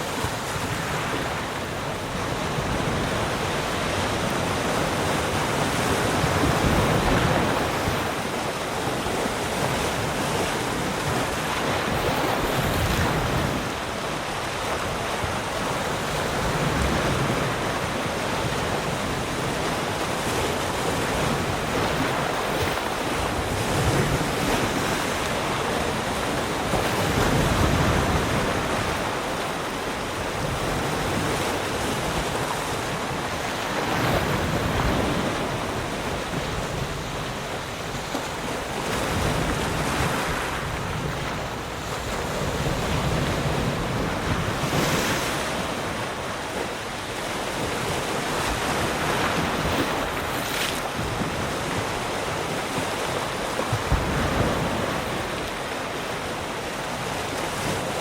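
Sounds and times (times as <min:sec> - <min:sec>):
wind on microphone: 0:00.0 - 0:55.8
waves breaking on shore: 0:00.0 - 0:58.0.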